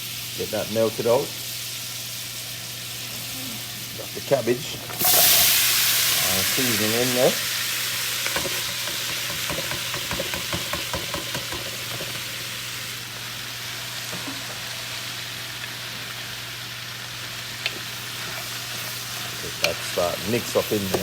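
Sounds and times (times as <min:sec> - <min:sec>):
cabbage sizzling in a pan: 0:00.0 - 0:21.0.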